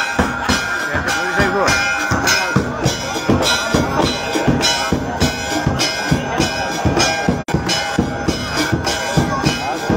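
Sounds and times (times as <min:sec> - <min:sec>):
bells and cymbals clanging: 0:00.0 - 0:09.9
drum beats: 0:00.0 - 0:09.9.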